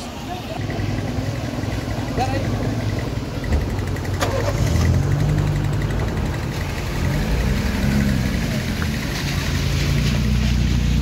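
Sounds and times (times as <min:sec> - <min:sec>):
car engine running at low revs: 0:00.6 - 0:11.0.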